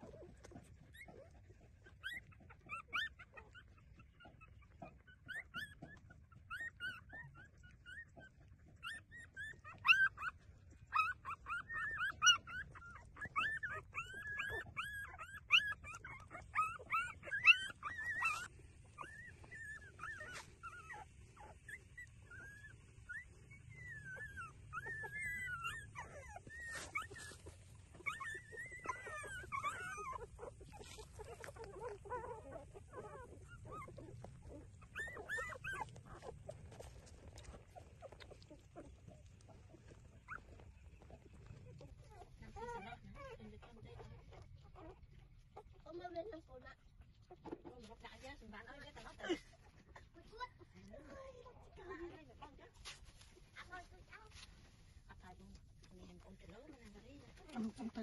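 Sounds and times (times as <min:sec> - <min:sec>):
puppies squeaking and whimpering: 0:00.0 - 0:45.9, 0:55.4 - 0:58.0.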